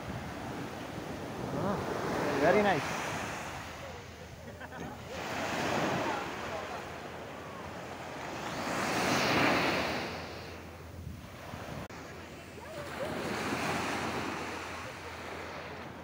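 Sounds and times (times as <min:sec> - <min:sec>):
small waves breaking on shore: 0:00.0 - 0:16.0.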